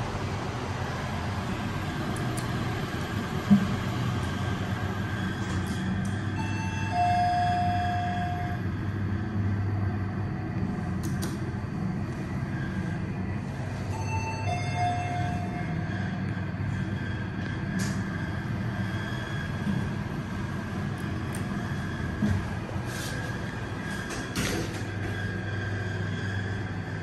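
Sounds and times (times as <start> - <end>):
lift humming: 0.0 - 27.0.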